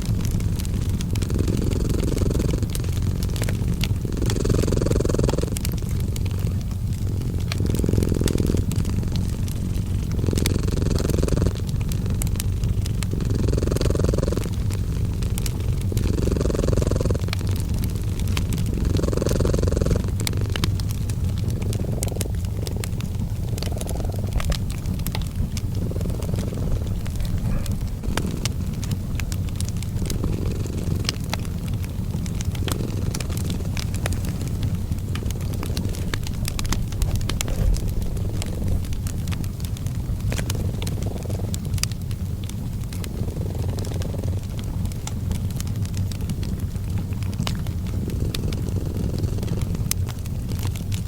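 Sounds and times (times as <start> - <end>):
cat purring: 0.0 - 51.0
fireplace crackling and popping: 0.0 - 51.0.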